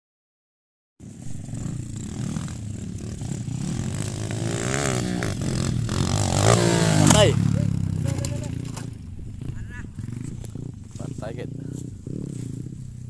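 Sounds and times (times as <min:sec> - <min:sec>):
dirt bike engine revving: 0:01.0 - 0:13.0.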